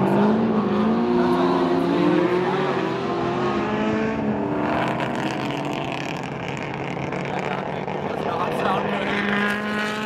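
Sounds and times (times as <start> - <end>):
raspy race car engine: 0.0 - 10.0.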